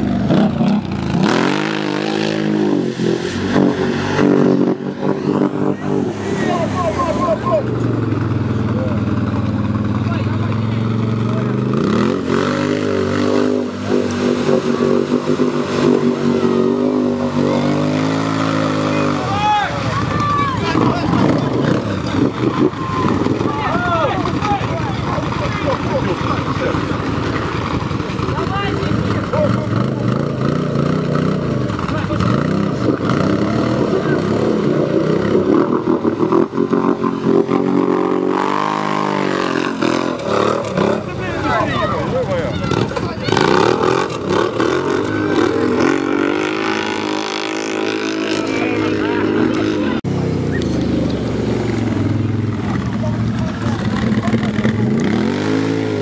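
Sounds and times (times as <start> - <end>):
atv engine revving high: 0.0 - 56.0.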